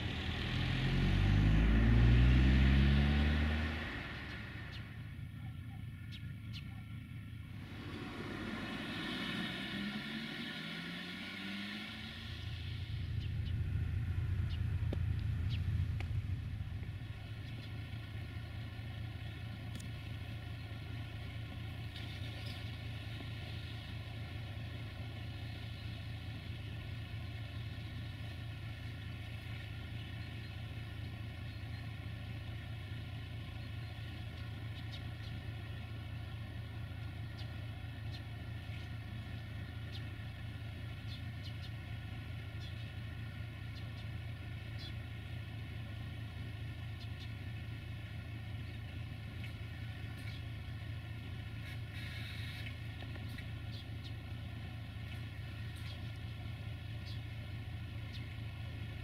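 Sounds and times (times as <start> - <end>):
distant locomotive engine drone: 0.0 - 59.0.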